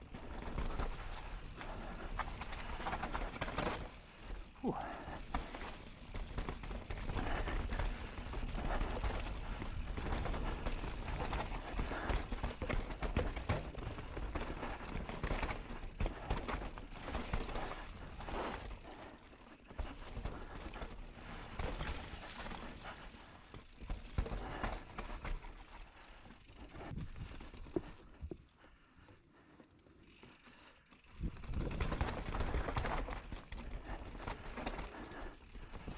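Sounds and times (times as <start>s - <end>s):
bike chain and frame rattling: 0.0s - 28.4s, 29.8s - 35.9s
bike tyres crunching over dirt: 0.0s - 35.9s.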